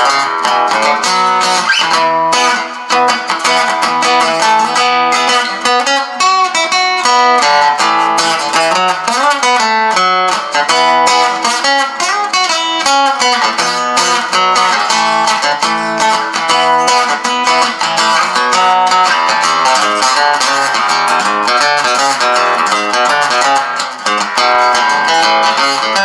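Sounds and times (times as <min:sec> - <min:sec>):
amplified acoustic guitar: 0:00.0 - 0:26.0.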